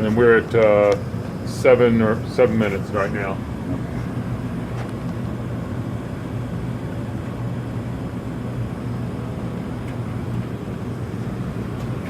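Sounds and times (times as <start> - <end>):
gas water heaters humming: 0.0 - 12.0.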